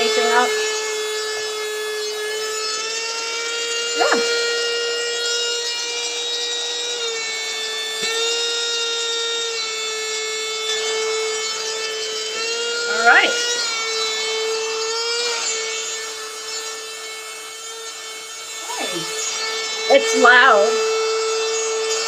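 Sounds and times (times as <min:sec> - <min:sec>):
mini vacuum motor whine: 0:00.0 - 0:22.0.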